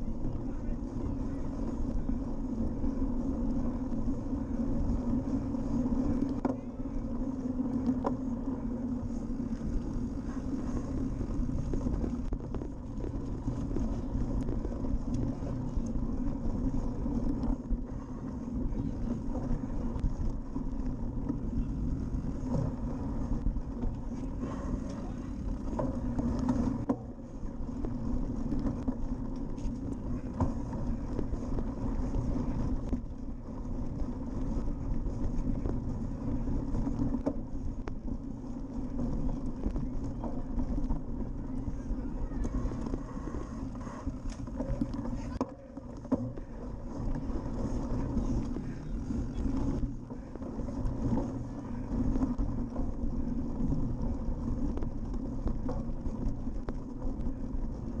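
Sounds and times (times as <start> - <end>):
bike rattling and knocking: 0.0 - 58.0
rumble of tyres and wind: 0.0 - 58.0.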